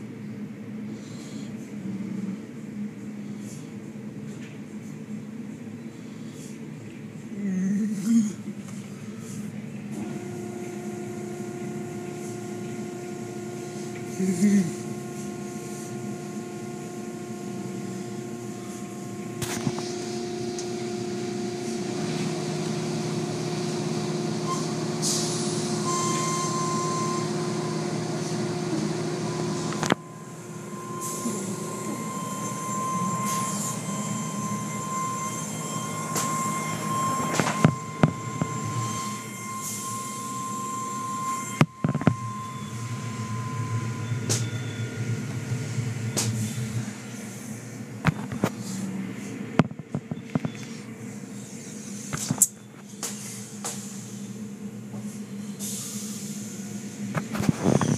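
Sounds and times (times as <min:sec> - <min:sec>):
car wash machinery humming: 0:08.4 - 0:57.9.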